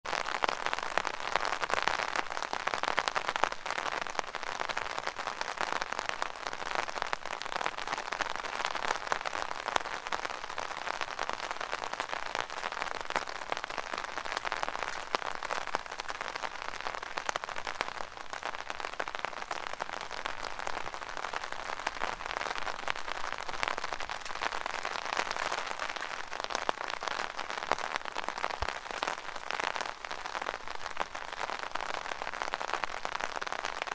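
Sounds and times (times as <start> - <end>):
rain hitting an umbrella: 0.1 - 33.9.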